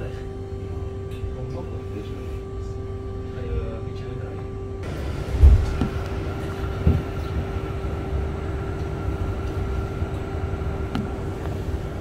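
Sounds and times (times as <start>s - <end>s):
electric bus hum and whine: 0.0s - 12.0s.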